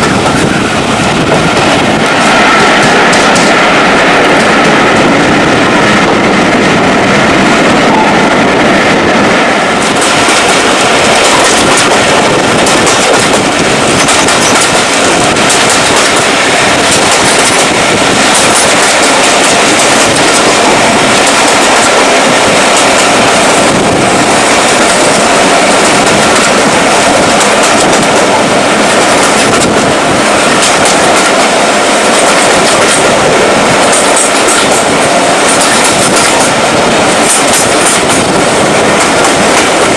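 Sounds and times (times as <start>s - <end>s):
train rumble and hiss: 0.0s - 39.9s
train wheels clicking on rails: 0.0s - 39.9s.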